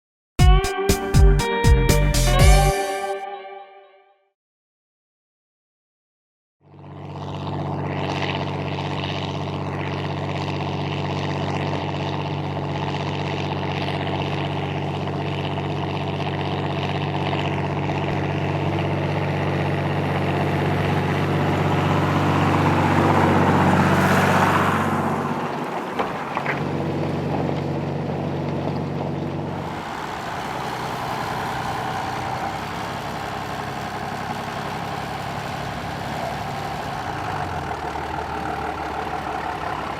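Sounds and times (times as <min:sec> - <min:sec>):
tractor diesel engine growling: 0:06.7 - 0:39.9.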